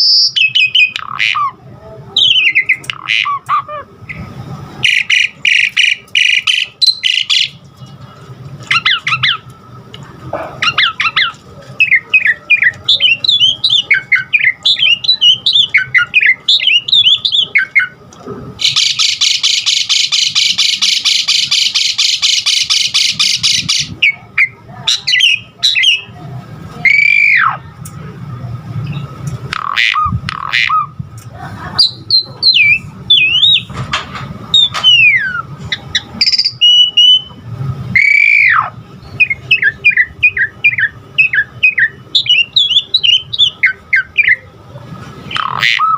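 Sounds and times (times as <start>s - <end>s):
starling singing: 0.0s - 7.9s, 8.6s - 9.5s, 10.5s - 18.0s, 18.6s - 27.7s, 28.8s - 31.0s, 31.8s - 33.8s, 34.4s - 45.9s.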